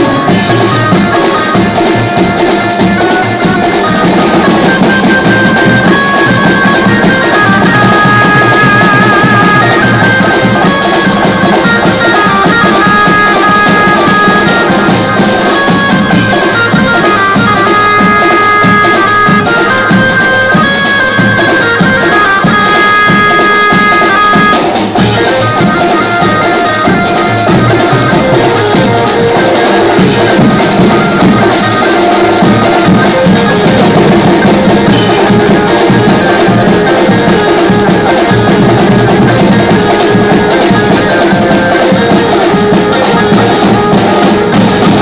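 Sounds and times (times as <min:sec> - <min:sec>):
drums beating: 0:00.0 - 0:45.0
melody of long held notes: 0:00.0 - 0:45.0.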